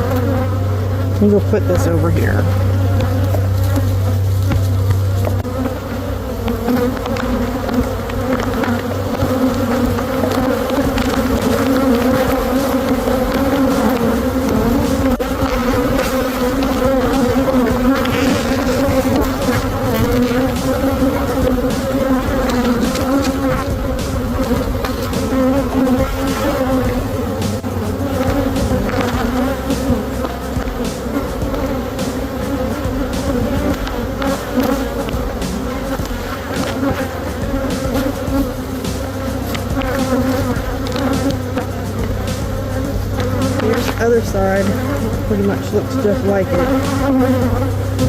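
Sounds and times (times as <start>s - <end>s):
honey bees buzzing: 0.0s - 48.0s.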